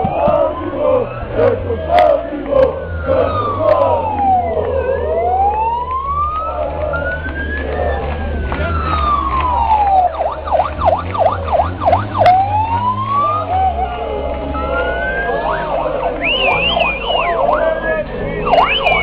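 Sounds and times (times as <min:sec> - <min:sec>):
siren wailing and yelping: 0:00.0 - 0:19.0.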